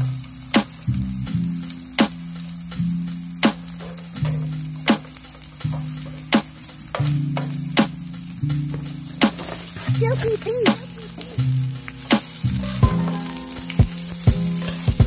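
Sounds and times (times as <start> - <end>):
background music with beat: 0.0 - 15.0
garlic sizzling in butter: 0.0 - 15.0.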